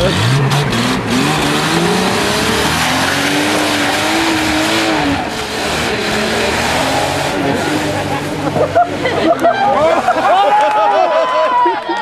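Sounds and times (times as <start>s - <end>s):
off-road vehicle engine revving: 0.0s - 10.8s.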